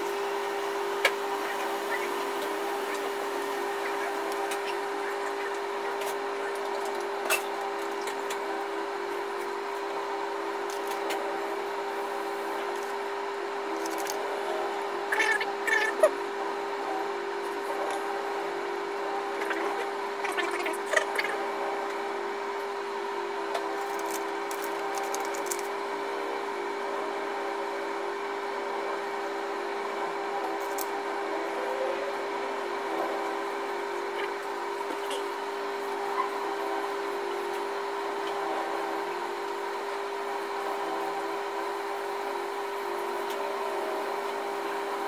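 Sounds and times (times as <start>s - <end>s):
excavator engine and hydraulics whine: 0.0s - 45.0s.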